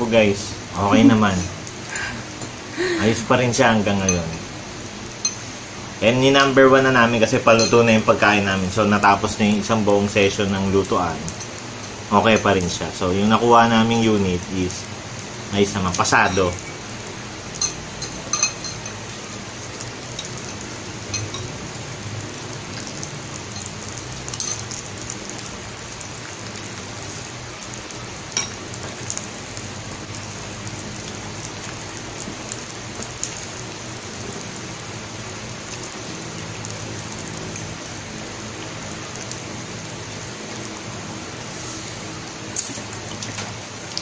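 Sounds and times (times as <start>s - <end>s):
meat sizzling on a grill: 0.0s - 44.0s.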